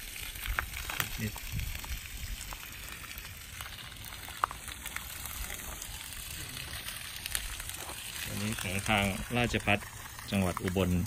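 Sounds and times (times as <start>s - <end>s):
water splashing onto dirt: 0.0s - 11.0s.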